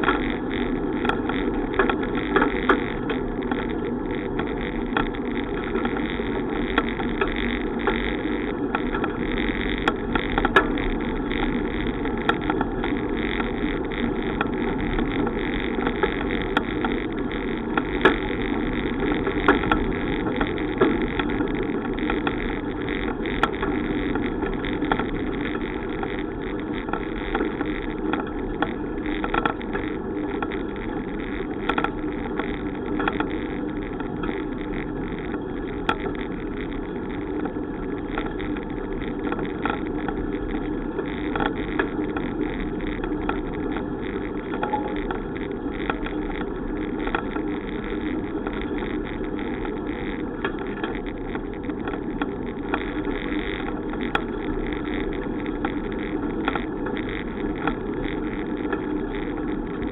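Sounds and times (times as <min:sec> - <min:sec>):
bicycle tyres on road: 0:00.0 - 0:59.9
small clicks and rattles: 0:00.0 - 0:59.9.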